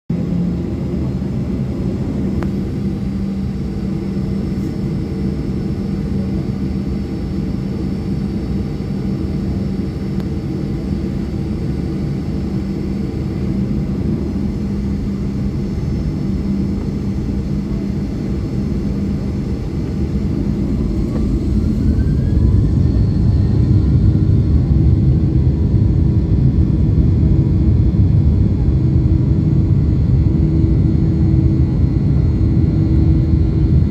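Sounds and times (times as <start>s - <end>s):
jet engines from inside cabin: 0.1s - 33.9s.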